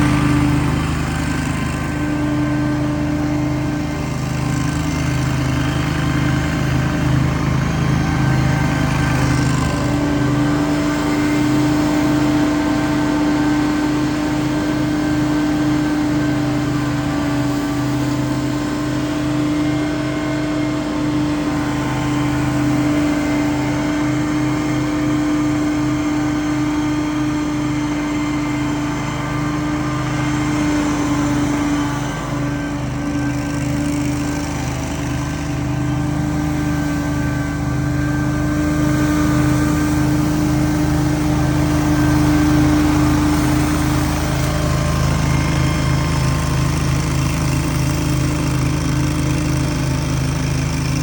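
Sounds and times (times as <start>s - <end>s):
constant whine: 0.0s - 51.0s
debris blower drone: 0.0s - 51.0s
lawn equipment engine running: 0.0s - 51.0s.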